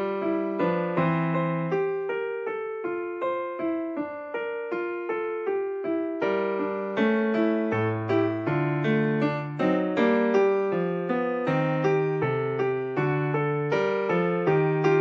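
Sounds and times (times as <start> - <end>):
piano single notes: 0.0 - 15.0.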